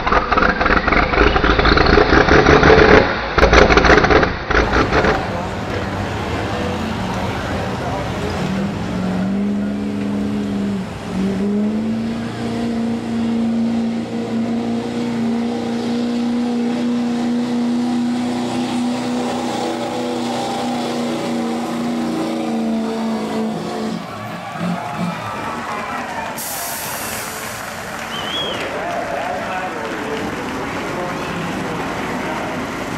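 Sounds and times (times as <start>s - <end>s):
diesel truck engine at high revs: 0.0s - 32.9s.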